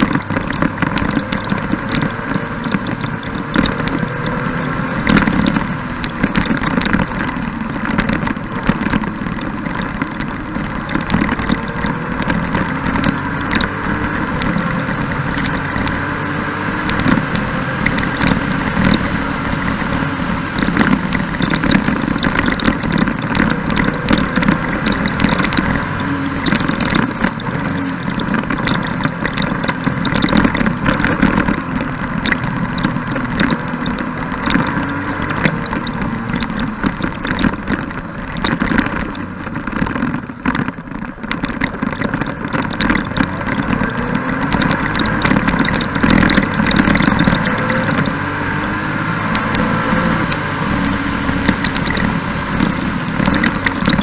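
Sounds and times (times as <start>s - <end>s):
three-wheeler engine running: 0.0s - 54.0s
wind buffeting microphone: 0.0s - 54.0s.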